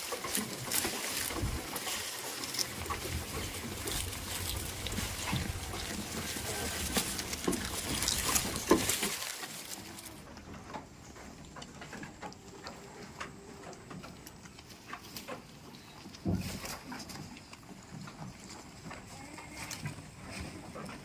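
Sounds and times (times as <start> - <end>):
goats rustling and clicking: 0.0 - 21.0.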